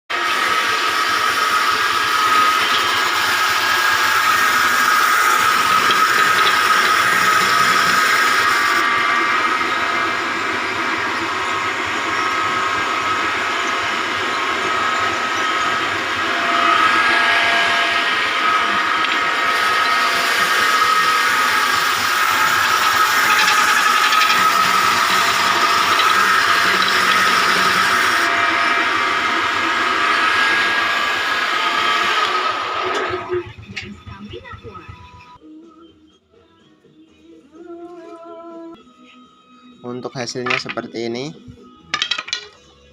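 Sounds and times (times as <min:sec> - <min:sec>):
sanding machine whining: 0:00.1 - 0:34.7.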